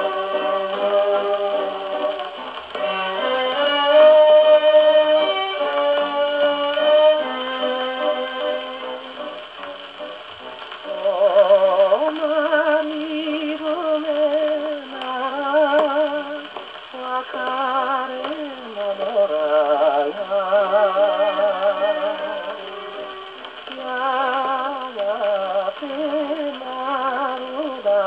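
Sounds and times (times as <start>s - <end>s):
person singing with vibrato: 0.0s - 9.3s, 10.8s - 28.0s
band accompaniment on gramophone: 0.0s - 28.0s.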